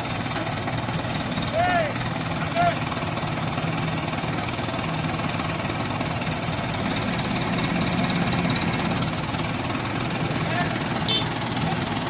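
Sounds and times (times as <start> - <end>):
crane diesel engine running: 0.0 - 12.0.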